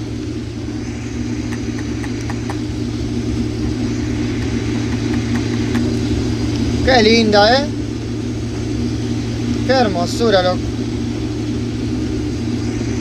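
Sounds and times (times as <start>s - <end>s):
combine engine and threshing hum: 0.0s - 13.0s.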